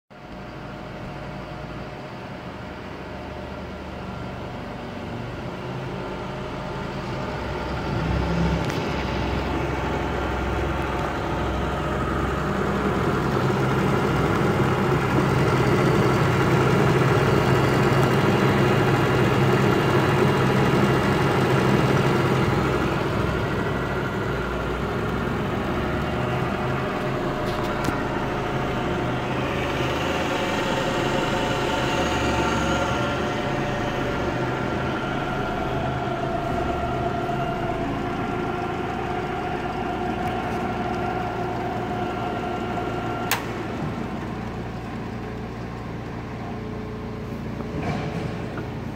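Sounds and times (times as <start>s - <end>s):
drill press motor humming: 5.8s - 48.9s.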